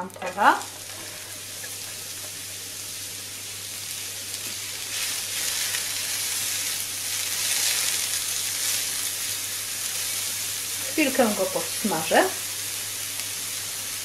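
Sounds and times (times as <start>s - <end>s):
leek sizzling in oil: 0.0s - 14.0s.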